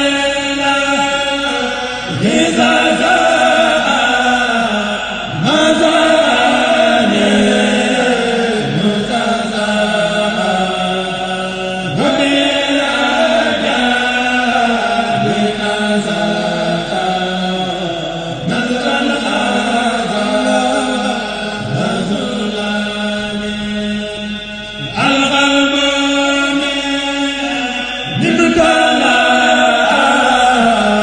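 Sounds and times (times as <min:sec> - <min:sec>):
men chanting together: 0:00.0 - 0:24.0, 0:24.9 - 0:31.0.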